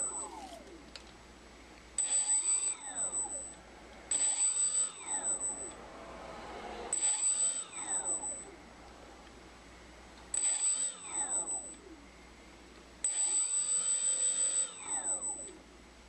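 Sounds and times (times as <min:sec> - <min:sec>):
propeller motors whirring: 0:00.0 - 0:15.7
steady high whine: 0:00.0 - 0:16.0.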